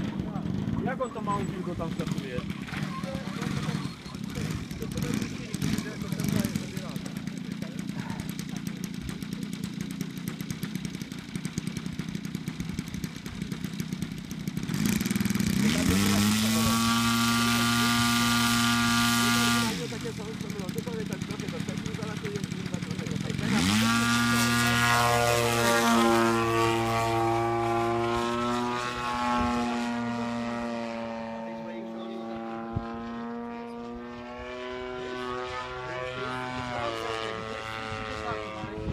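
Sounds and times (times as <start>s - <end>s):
model plane engine running: 0.0s - 38.9s.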